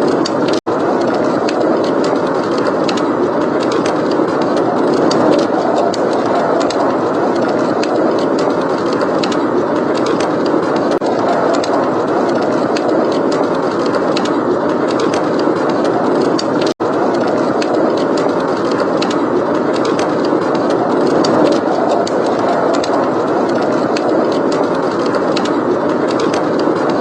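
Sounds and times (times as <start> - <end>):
blizzard wind: 0.0 - 27.0
wood fire crackling: 0.0 - 27.0.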